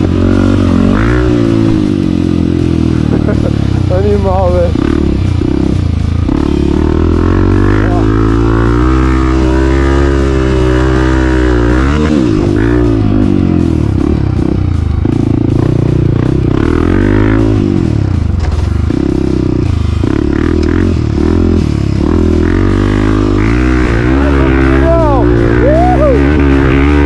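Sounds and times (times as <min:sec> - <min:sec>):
backing music: 0:00.0 - 0:27.0
motorcycle engine revving: 0:00.0 - 0:27.0.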